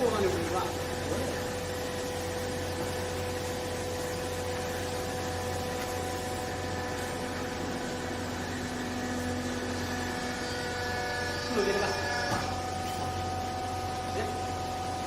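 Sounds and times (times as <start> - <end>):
baler machine humming: 0.0 - 15.0.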